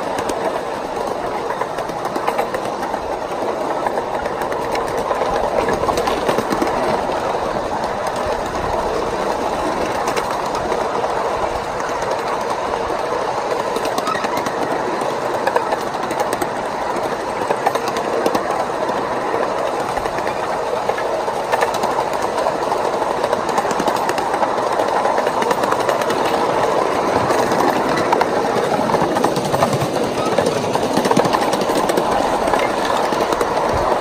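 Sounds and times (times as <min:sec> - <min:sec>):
steel wheels on rail: 0:00.0 - 0:34.0.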